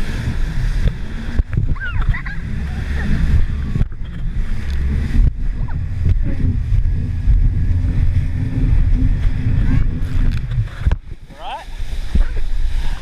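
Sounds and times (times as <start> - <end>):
jet ski engine: 0.0 - 13.0
water spray rushing: 0.0 - 13.0
wind buffeting microphone: 0.0 - 13.0.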